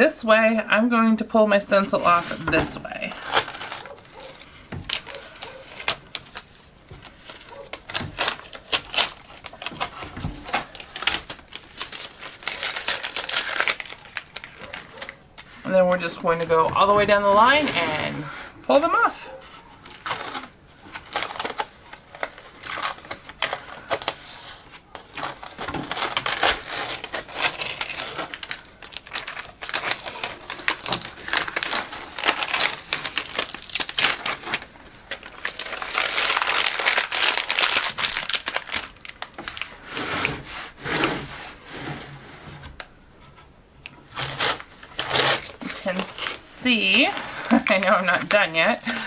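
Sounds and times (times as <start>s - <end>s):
vinyl peeling and crumpling: 1.7s - 18.8s, 19.4s - 49.0s.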